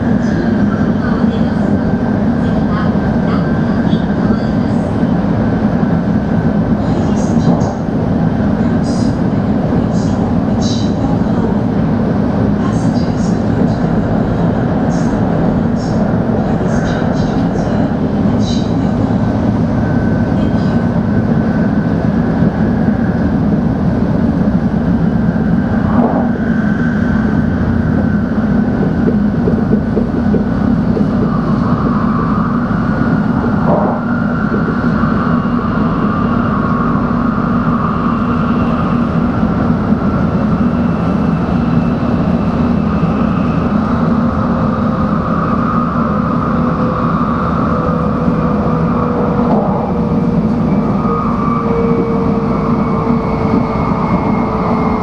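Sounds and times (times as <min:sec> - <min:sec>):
train running at speed: 0:00.0 - 0:55.0.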